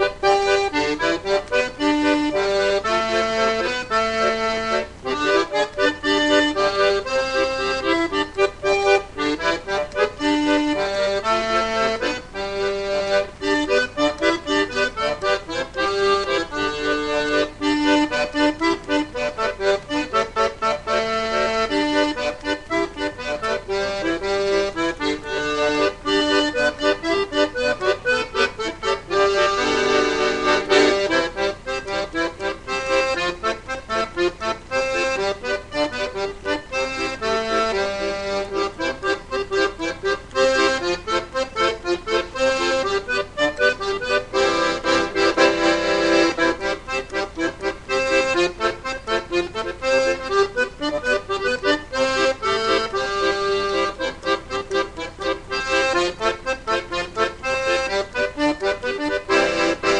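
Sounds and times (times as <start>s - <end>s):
accordion playing country tune: 0.0s - 59.9s.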